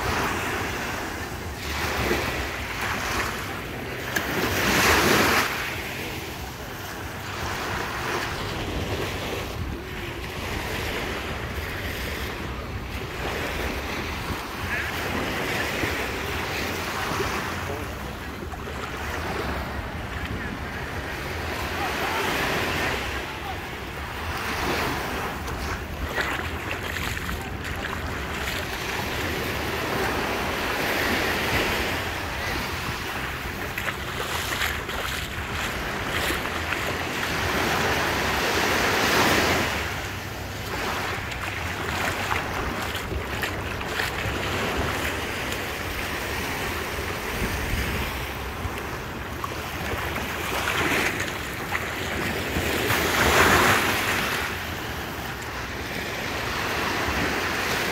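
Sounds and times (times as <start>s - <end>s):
waves breaking on beach: 0.0s - 57.9s.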